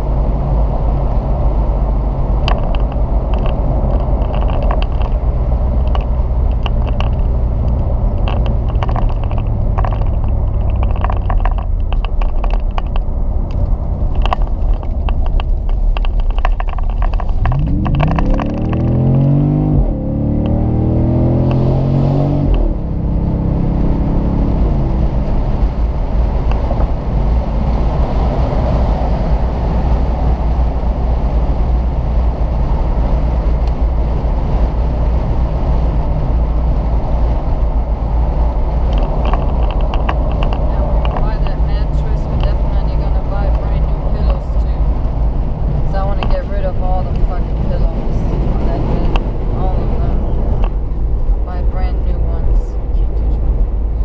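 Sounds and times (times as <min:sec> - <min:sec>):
car engine accelerating hard: 0:00.0 - 0:54.0
car engine droning: 0:00.0 - 0:54.0.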